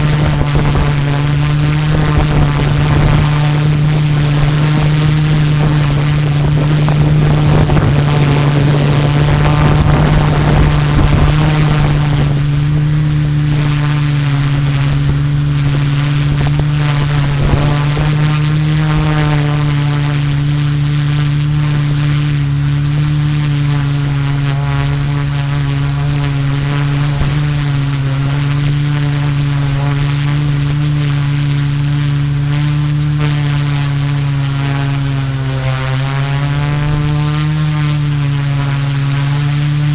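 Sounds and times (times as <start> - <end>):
drone motors humming: 0.0 - 39.9
wind noise: 0.0 - 39.9.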